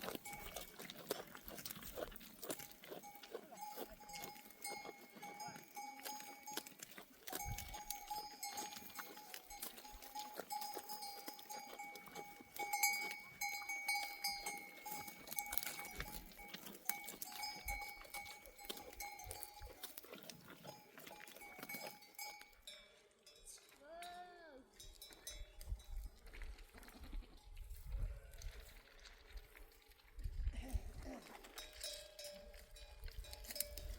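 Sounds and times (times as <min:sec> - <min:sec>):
sheep bells clanking: 0:00.0 - 0:26.5, 0:31.3 - 0:33.9.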